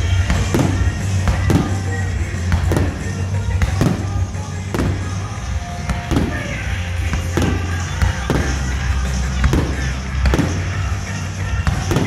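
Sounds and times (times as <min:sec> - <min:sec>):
fireworks bangs: 0:00.0 - 0:12.0
loud bass-heavy music: 0:00.0 - 0:12.0.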